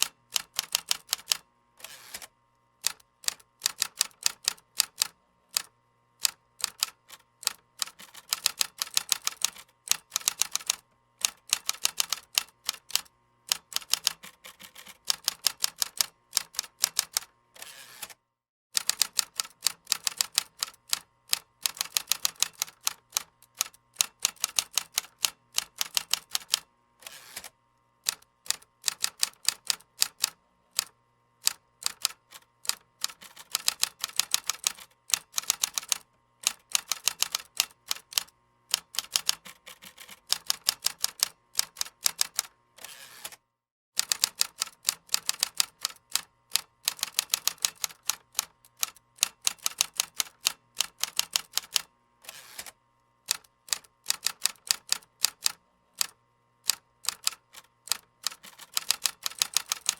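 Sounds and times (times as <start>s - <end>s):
typing on keyboard: 0.0s - 1.4s, 2.8s - 17.3s, 18.8s - 26.7s, 28.1s - 42.5s, 44.0s - 51.9s, 52.6s - 59.9s.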